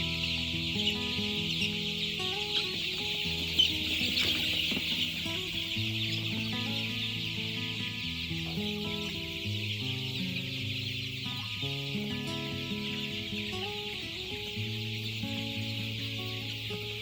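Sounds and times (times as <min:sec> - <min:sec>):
chickens clucking: 0:00.0 - 0:17.0
soft background music: 0:00.0 - 0:17.0.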